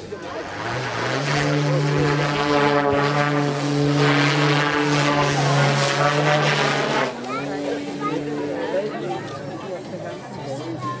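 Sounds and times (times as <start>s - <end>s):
model plane motor and propeller: 0.0s - 11.0s.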